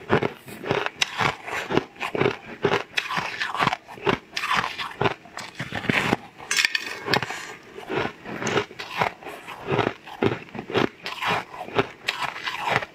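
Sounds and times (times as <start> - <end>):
biting into cake: 0.0 - 12.9
chewing: 0.0 - 12.9.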